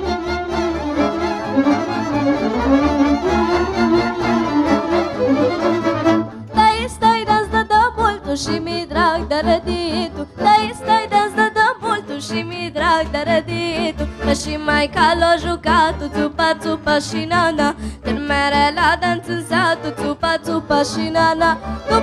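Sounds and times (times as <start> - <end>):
accordion: 0.0 - 22.0
double bass: 0.0 - 22.0
fiddle melody: 0.0 - 22.0
folk band playing: 0.0 - 22.0.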